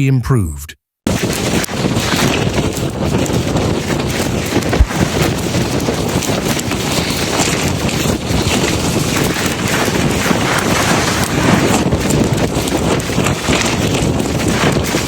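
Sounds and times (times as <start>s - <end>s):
wind buffeting microphone: 1.1s - 15.0s.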